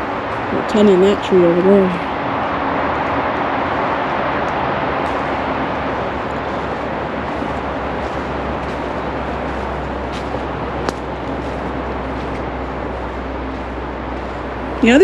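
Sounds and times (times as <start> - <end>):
creek rapids rushing: 0.0 - 15.0.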